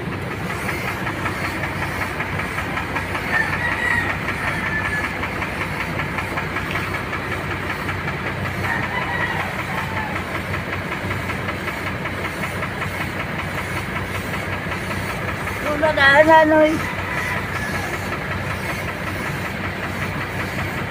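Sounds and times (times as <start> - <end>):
air compressor running: 0.0 - 20.9
paint spray gun hissing: 0.0 - 20.9.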